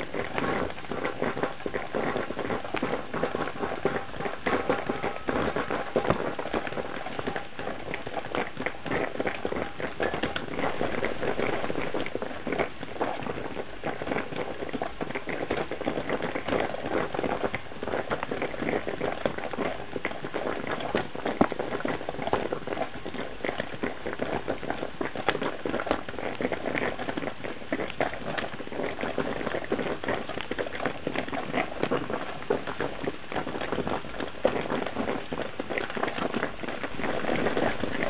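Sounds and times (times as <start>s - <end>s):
coffee percolator bubbling: 0.0s - 38.0s.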